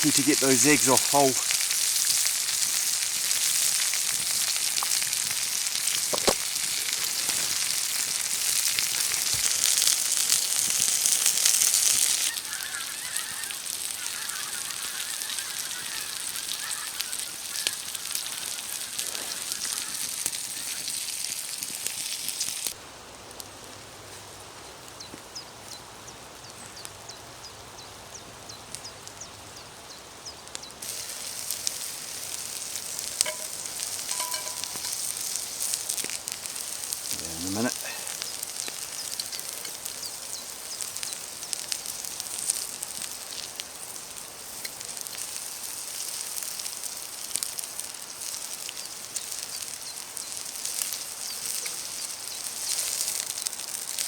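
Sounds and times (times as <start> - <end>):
small crackles: 0.0 - 25.8, 28.2 - 29.5, 30.3 - 54.0
food sizzling on hot slate: 0.0 - 54.0.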